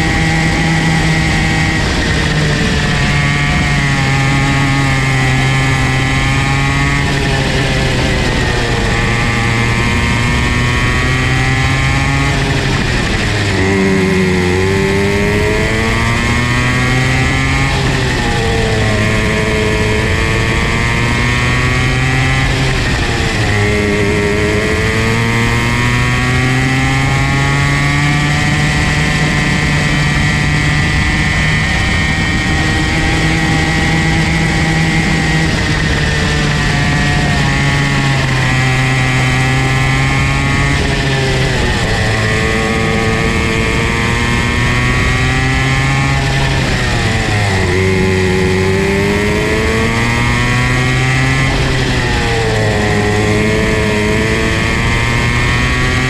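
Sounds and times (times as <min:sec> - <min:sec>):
kart engine at high revs: 0:00.0 - 0:56.0.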